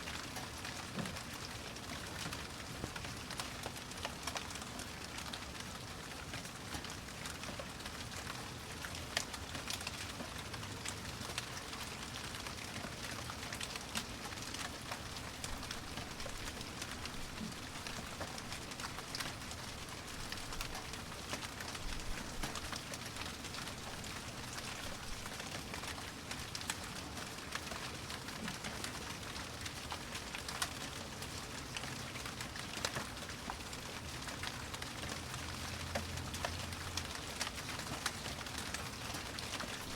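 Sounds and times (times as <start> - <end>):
steady rain falling: 0.0 - 39.9
raindrops ticking: 0.1 - 39.9.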